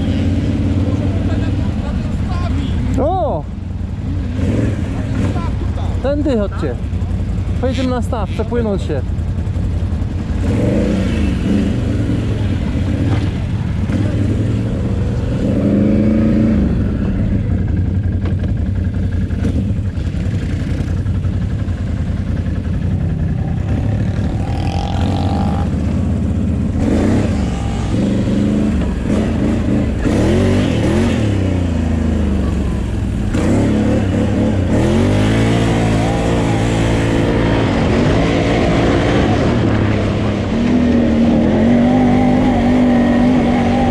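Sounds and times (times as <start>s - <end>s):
quad engine revving: 4.0s - 6.7s, 9.8s - 18.4s, 19.0s - 43.9s.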